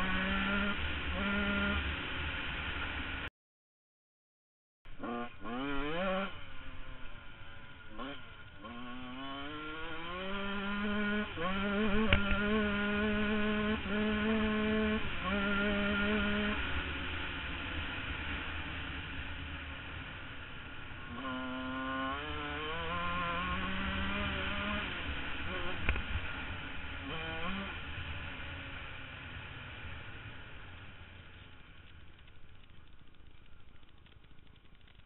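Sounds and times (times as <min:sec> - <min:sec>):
dirtbike engine accelerating: 0:00.0 - 0:03.3, 0:04.9 - 0:35.0.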